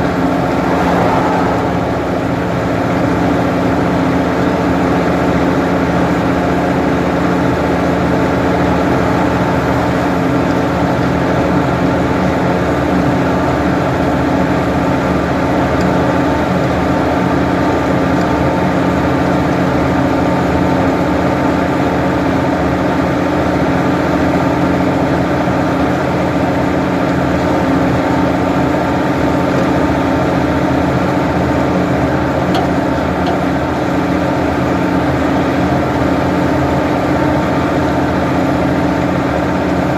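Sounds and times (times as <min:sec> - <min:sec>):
backhoe engine droning: 0:00.0 - 0:39.9.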